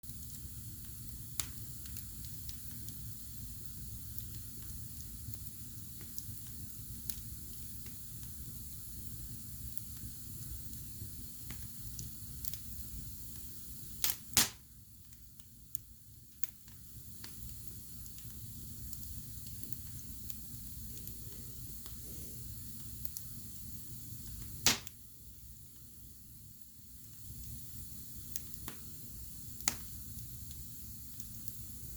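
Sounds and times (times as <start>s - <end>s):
wood fire crackling: 0.0s - 31.9s
loud pops of burning wood: 0.1s - 22.0s, 22.6s - 25.1s, 26.6s - 31.9s.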